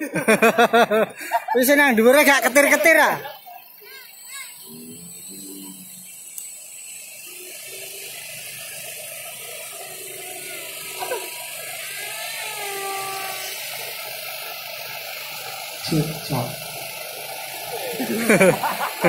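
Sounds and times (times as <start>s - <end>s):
model plane motors buzzing: 0.0s - 19.0s.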